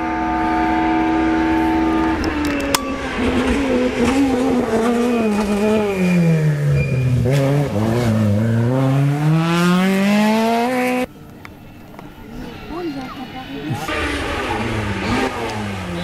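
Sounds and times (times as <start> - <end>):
rally car engine revving: 0.0 - 11.1, 13.6 - 16.0.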